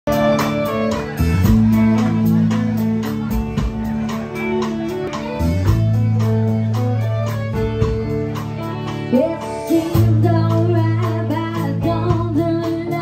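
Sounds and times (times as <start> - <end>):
bass guitar: 0.1 - 13.0
electric guitar: 0.1 - 13.0
fiddle: 0.1 - 13.0
steady drum beat: 0.1 - 13.0.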